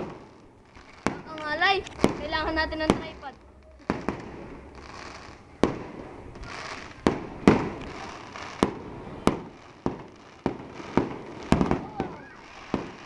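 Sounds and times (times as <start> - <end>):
fireworks bangs echoing: 0.0 - 13.0.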